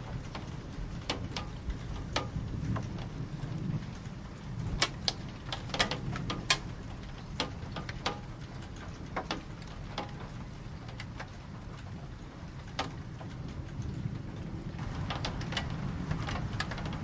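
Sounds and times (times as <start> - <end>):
low steady rumble: 0.0 - 17.0
raindrops ticking on hard surface: 0.0 - 17.0.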